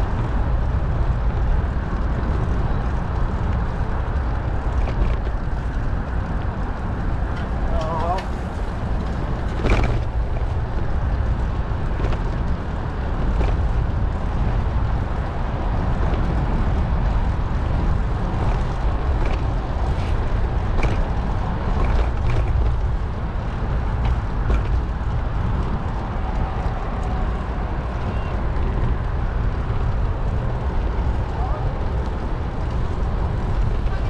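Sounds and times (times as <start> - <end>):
bicycle rolling noise: 0.0 - 34.0
wind on microphone: 0.0 - 34.0.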